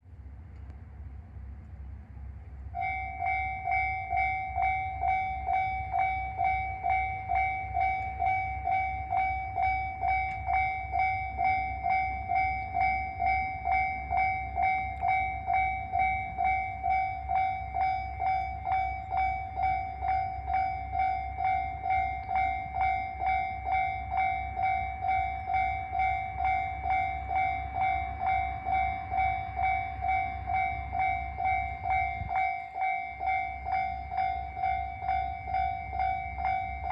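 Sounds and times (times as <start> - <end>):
level-crossing warning bell: 2.5 - 36.9.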